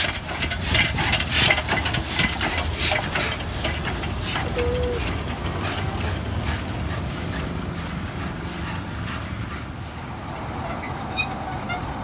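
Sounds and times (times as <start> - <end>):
steam train rumbling past: 0.0 - 12.0.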